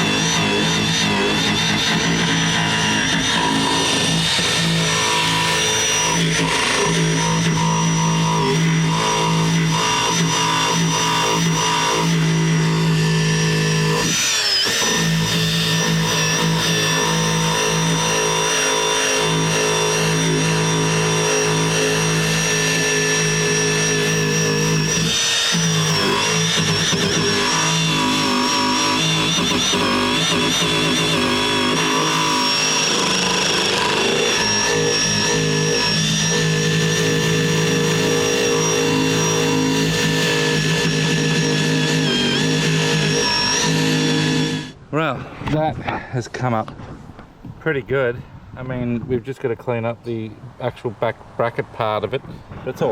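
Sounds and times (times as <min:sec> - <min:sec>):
wire brush grinding metal: 0:00.0 - 0:44.8.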